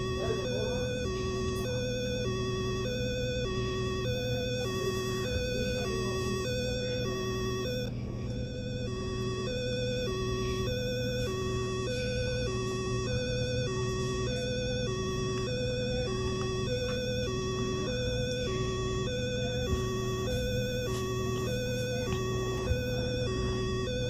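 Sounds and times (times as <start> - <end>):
two-tone hi-lo siren: 0.0 - 7.9, 8.5 - 24.0
steady low hum: 0.0 - 24.0.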